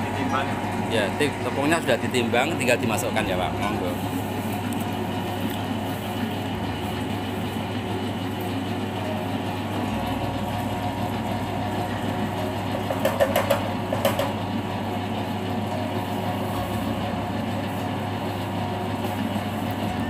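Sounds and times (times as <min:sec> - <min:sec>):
dough mixer motor humming: 0:00.0 - 0:20.0.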